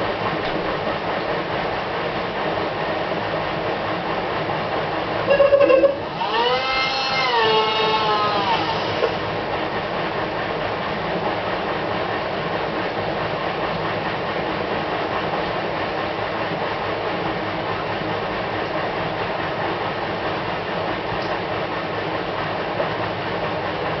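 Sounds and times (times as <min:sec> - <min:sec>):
washing machine abnormal noise: 0:00.0 - 0:24.0.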